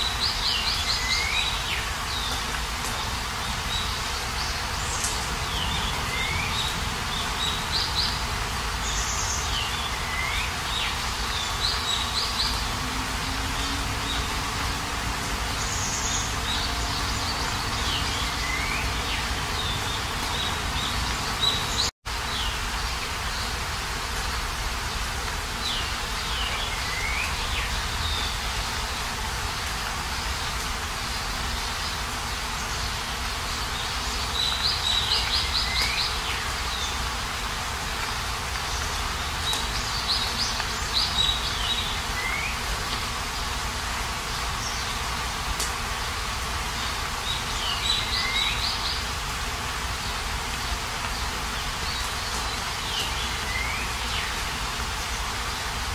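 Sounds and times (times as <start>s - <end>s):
birds chirping: 0.0s - 55.9s
rain hiss: 0.0s - 55.9s.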